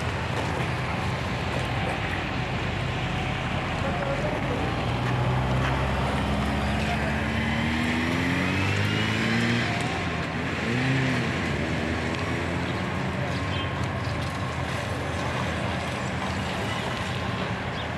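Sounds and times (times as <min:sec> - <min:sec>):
heavy machinery diesel engines revving: 0:00.0 - 0:17.9.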